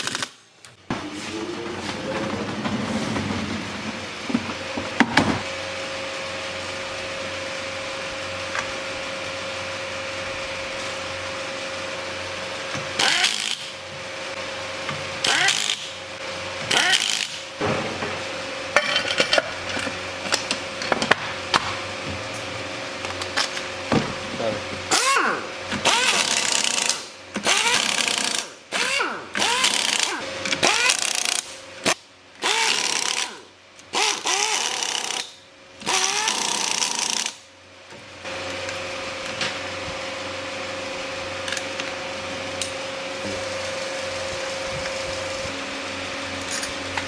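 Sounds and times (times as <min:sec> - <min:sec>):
workshop hum: 0:00.0 - 0:47.0.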